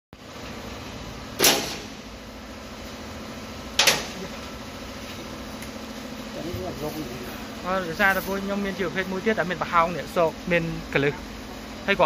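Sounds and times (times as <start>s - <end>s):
steady low hum: 0.2s - 12.0s.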